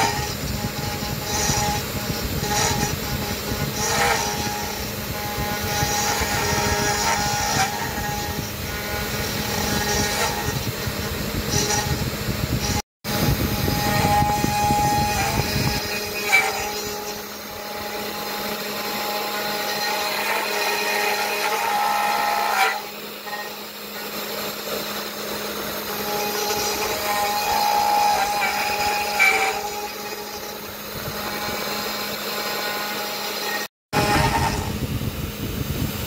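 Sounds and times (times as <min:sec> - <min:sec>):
router spindle whining: 0:00.0 - 0:36.0.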